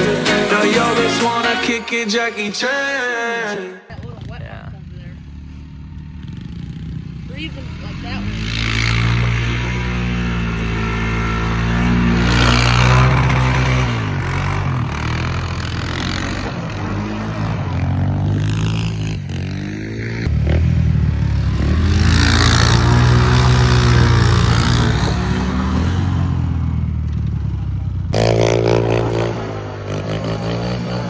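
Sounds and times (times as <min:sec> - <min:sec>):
small engine revving: 0:03.9 - 0:31.0.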